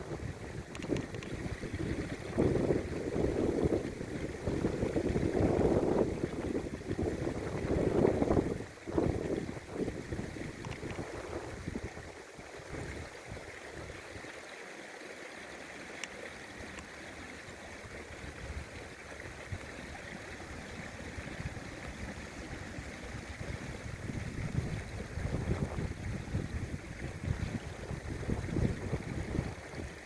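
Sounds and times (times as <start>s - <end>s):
wind buffeting microphone: 0.0s - 14.0s, 17.8s - 30.0s
river water running: 0.0s - 30.0s.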